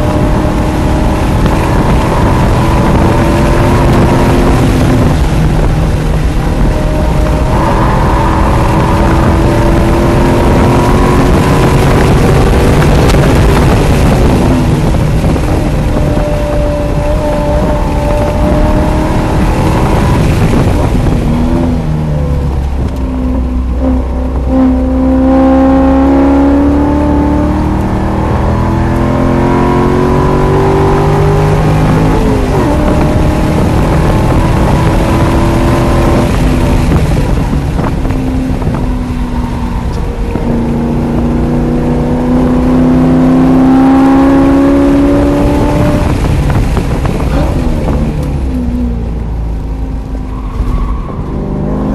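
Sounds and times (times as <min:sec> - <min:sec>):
car engine revving: 0:00.0 - 0:51.9
gear change: 0:00.0 - 0:51.9
wind and road noise: 0:00.0 - 0:51.9.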